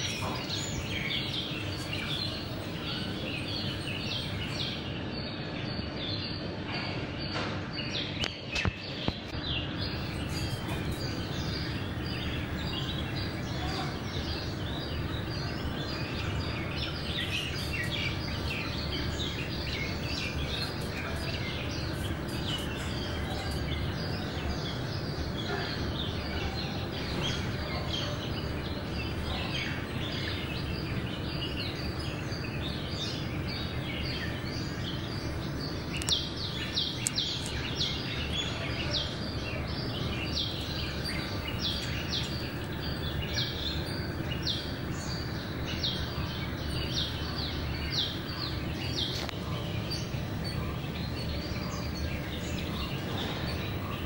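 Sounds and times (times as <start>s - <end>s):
outdoor background noise: 0.0s - 54.0s
small birds chirping: 0.0s - 54.0s.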